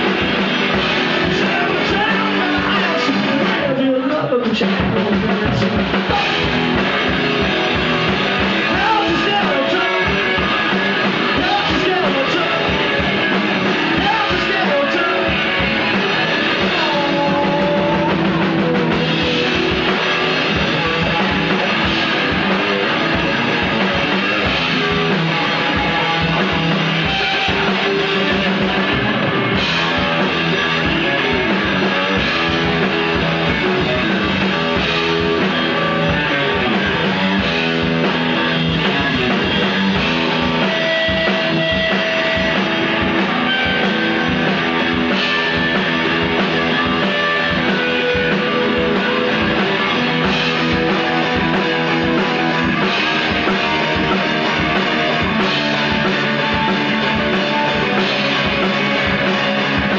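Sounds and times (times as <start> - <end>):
drum kit beat: 0.0 - 59.9
electric guitar: 0.0 - 59.9
live rock band playing: 0.0 - 59.9.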